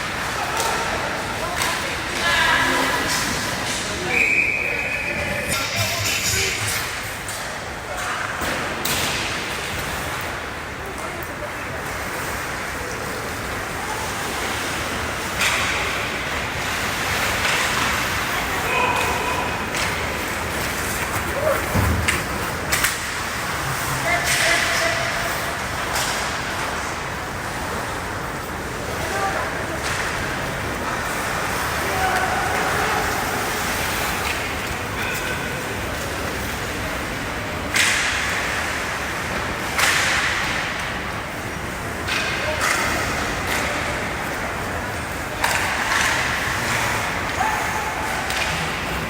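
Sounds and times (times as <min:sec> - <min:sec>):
hockey game noise: 0:00.0 - 0:49.0.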